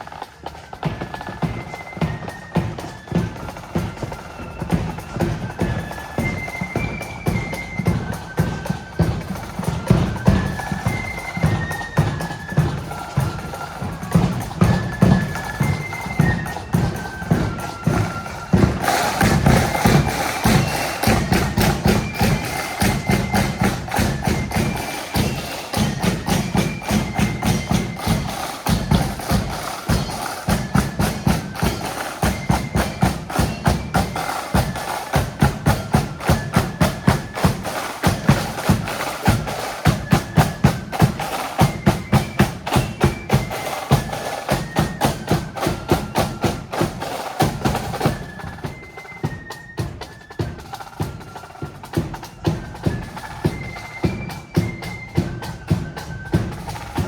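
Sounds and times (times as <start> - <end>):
flutes playing march melody: 0.0 - 57.0
snare and bass drums: 0.0 - 57.0.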